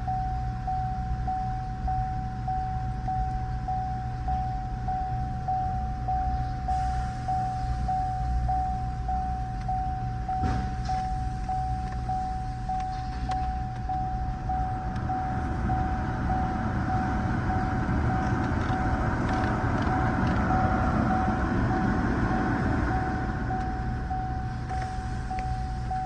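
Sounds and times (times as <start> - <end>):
car engine running: 0.0 - 26.0
car warning chime beeping: 0.0 - 26.0.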